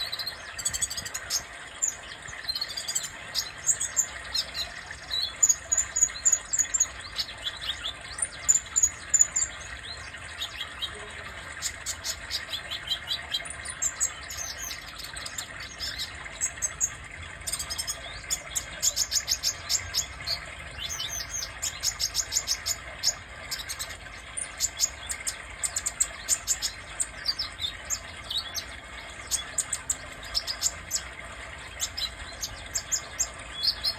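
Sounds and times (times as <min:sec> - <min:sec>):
sunbird high-pitched twittering trills: 0:00.0 - 0:33.9.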